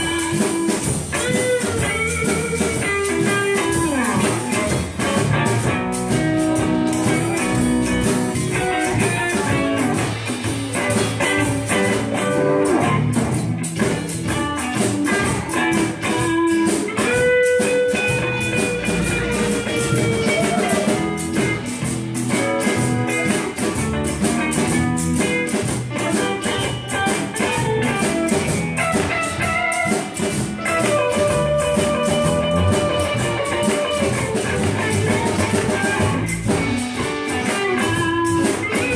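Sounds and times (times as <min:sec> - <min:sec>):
bending guitar lead notes: 0:00.0 - 0:38.9
live blues band playing: 0:00.0 - 0:38.9.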